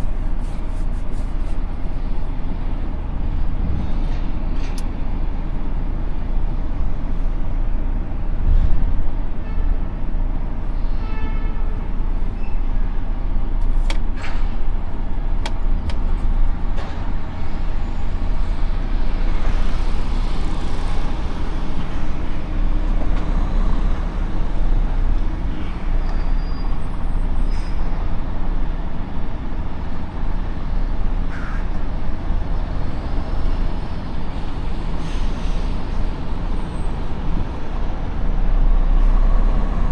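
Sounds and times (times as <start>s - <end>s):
truck diesel engine: 0.0s - 11.0s, 11.8s - 39.9s
road rumble: 0.0s - 39.9s.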